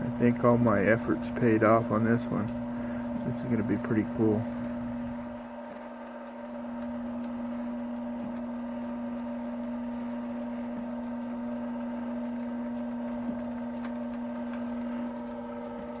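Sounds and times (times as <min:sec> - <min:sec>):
lathe motor humming: 0:00.0 - 0:16.0.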